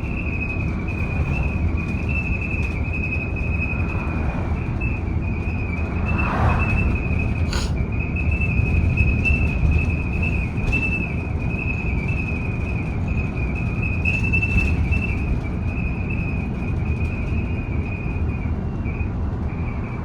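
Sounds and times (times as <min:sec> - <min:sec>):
low road rumble: 0:00.0 - 0:20.0.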